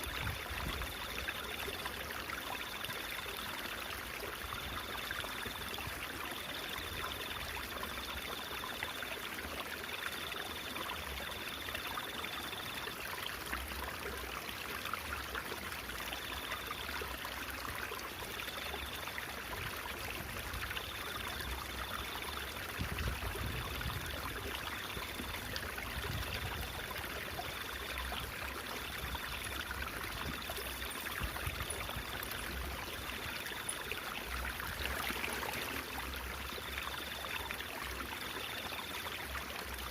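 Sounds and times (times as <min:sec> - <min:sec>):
water babbling and trickling: 0:00.0 - 0:39.9.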